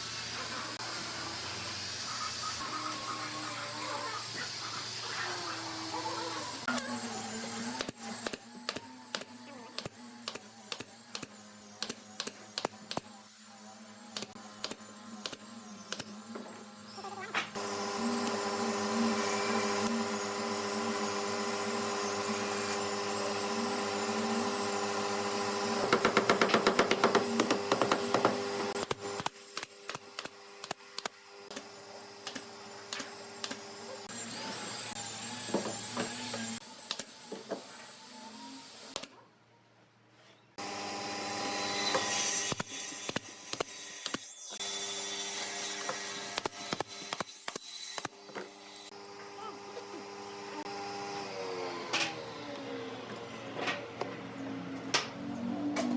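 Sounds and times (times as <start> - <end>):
power tool motor whining: 0.0 - 39.1, 40.6 - 54.5.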